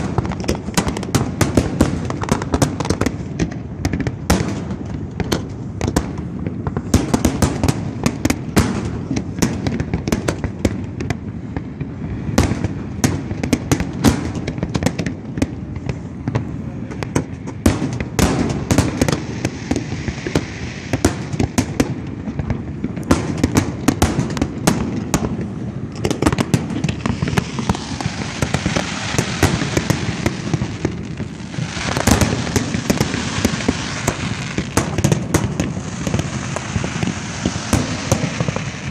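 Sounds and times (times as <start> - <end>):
fireworks bangs: 0.0 - 38.9
fireworks crackling fizz: 0.0 - 38.9.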